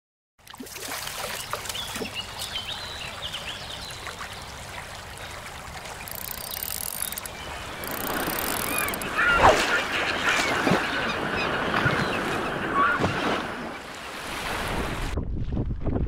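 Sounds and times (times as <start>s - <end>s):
water trickling and splashing: 0.4s - 15.2s.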